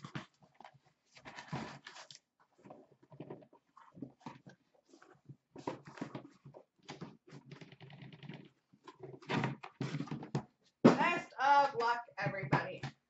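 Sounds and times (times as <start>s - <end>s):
boxes rustling and scraping: 0.0s - 11.2s.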